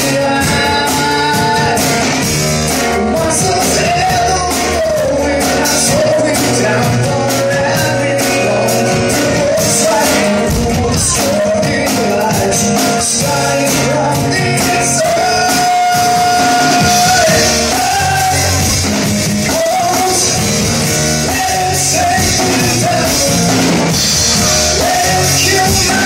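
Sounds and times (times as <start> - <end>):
acoustic guitar: 0.0 - 26.0
drum kit with cymbal hits: 0.0 - 26.0
person singing: 0.0 - 26.0.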